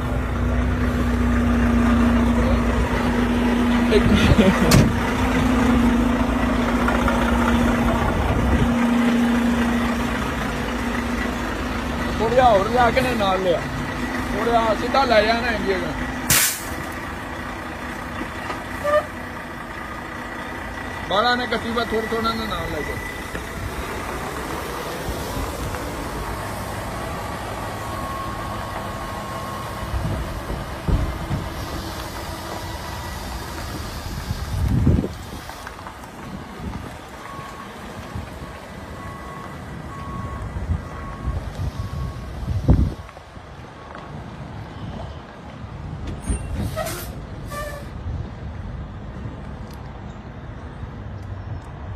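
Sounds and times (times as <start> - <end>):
diesel truck engine idling: 0.0 - 43.9.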